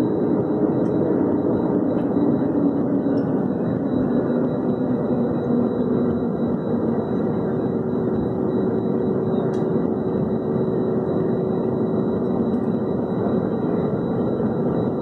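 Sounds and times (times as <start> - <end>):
faint steady hum: 0.0 - 15.0
jet engine rumble in cabin: 0.0 - 15.0.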